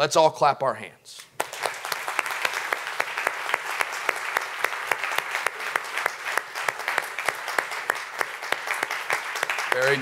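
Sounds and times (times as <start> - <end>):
close steady hand claps: 1.2 - 10.0
crowd clapping: 1.3 - 10.0.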